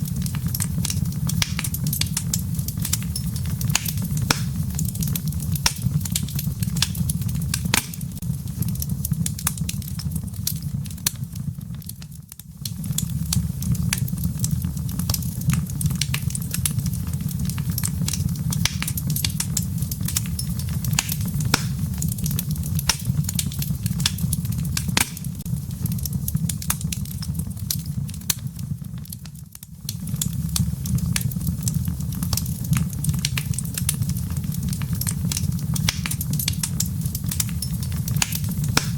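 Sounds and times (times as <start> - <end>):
fire crackling and popping: 0.0 - 38.9
low roar of flames: 0.0 - 38.9.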